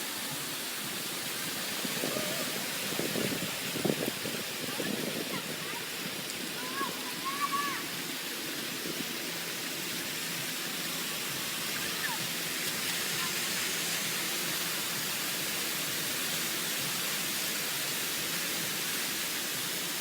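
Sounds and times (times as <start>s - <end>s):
water jets spraying: 0.0s - 20.0s.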